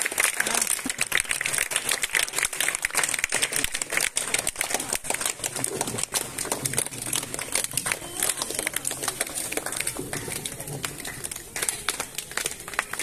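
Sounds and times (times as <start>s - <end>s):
audience clapping: 0.0s - 13.0s
crowd chatter: 0.0s - 13.0s.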